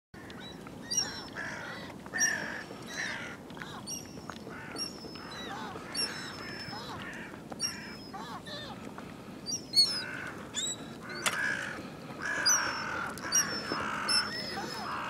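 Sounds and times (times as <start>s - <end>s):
birds chattering: 0.5s - 8.8s, 9.5s - 15.0s.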